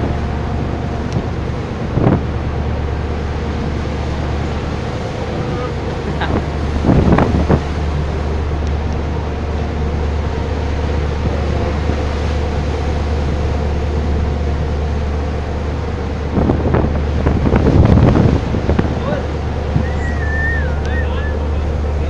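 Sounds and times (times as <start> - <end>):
sea water washing: 0.0 - 22.0
ship engines humming: 0.0 - 22.0
wind buffeting microphone: 0.0 - 22.0.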